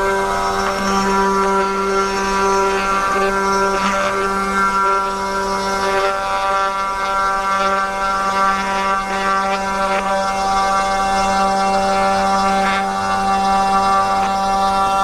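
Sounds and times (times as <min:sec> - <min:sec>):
router bit cutting wood: 0:00.0 - 0:15.0
router spindle whining: 0:00.0 - 0:15.0.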